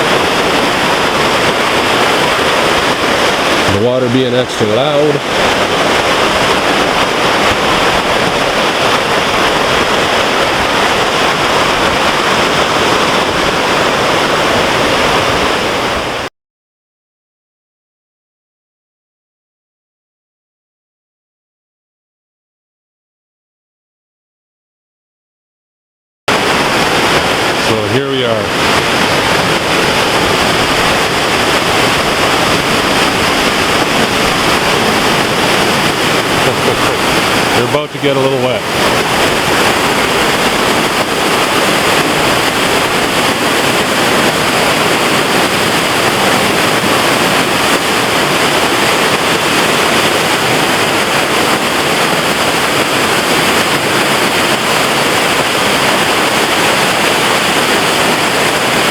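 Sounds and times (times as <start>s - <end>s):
waterfall rushing: 0.0s - 16.3s, 26.3s - 58.9s.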